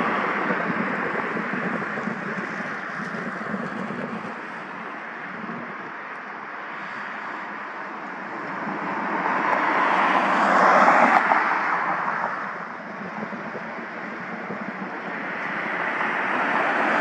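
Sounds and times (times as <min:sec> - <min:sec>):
background vehicle noise: 0:00.0 - 0:17.0.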